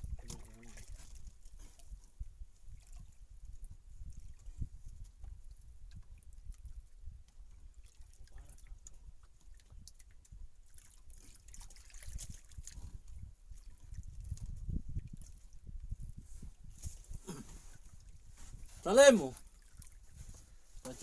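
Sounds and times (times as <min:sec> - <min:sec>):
water splashes and drips: 0:00.0 - 0:16.2, 0:17.7 - 0:21.0.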